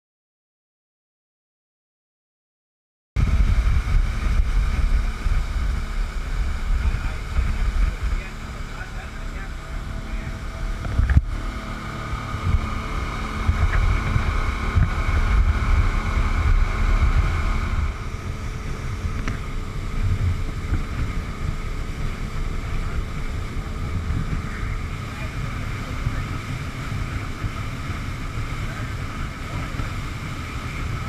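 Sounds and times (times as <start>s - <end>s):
outboard motors running: 3.2s - 31.0s
wind buffeting microphone: 3.2s - 31.0s.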